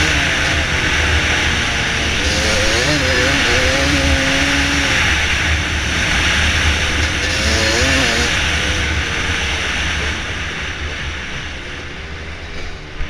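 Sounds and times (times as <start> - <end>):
dirt bike engine running: 0.0 - 13.0
steady loud hiss: 0.0 - 13.0.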